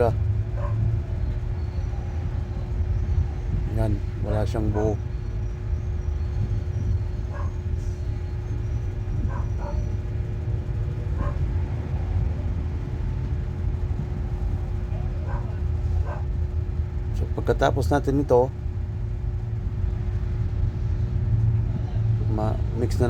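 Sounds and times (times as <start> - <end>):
constant hum: 0.0 - 23.0
steady low rumble: 0.0 - 23.0.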